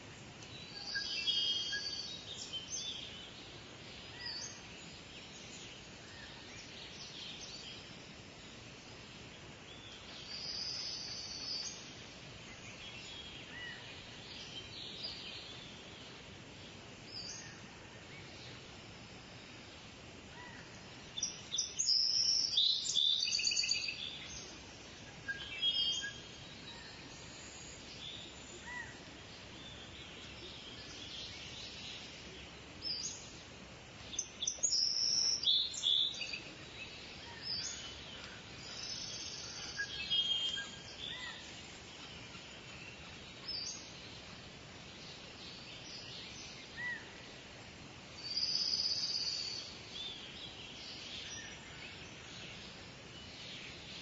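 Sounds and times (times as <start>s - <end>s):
background hiss: 0.0s - 54.0s
birds chirping: 0.1s - 54.0s.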